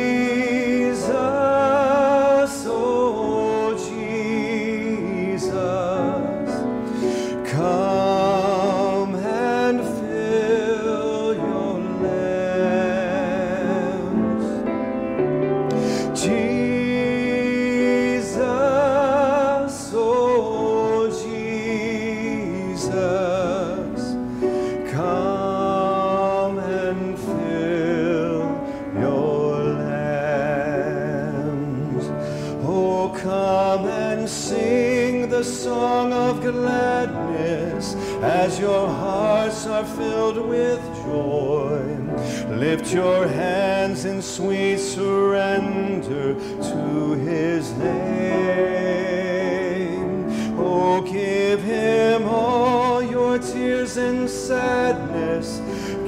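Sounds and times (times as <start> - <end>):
person singing with vibrato: 0.0 - 56.0
piano accompaniment: 0.0 - 56.0.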